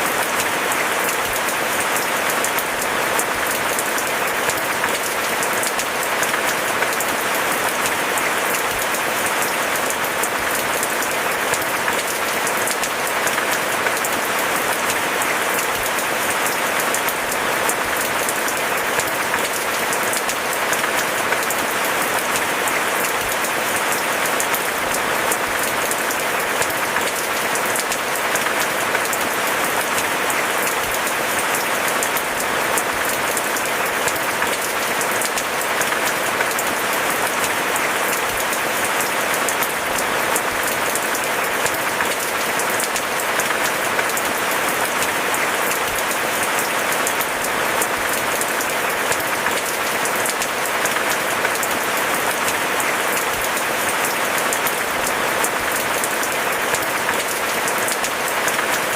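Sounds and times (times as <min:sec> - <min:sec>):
heavy rainfall: 0:00.0 - 0:58.9.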